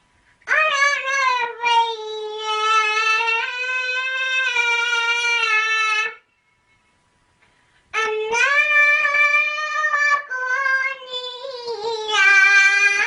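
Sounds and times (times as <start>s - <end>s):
child chanting melodically: 0.4s - 6.3s, 7.9s - 13.0s.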